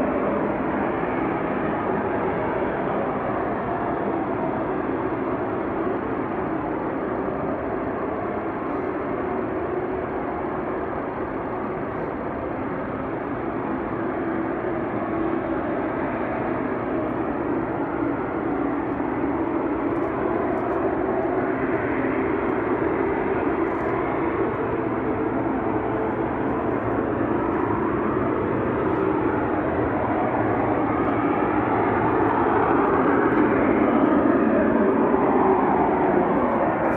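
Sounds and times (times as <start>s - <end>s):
droning roar from the sky: 0.0s - 36.9s.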